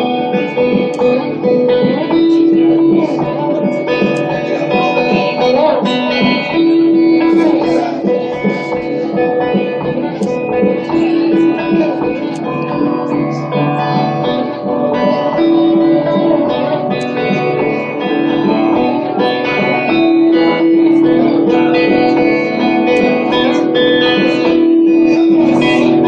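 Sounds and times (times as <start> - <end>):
electric guitar long notes: 0.0 - 26.0.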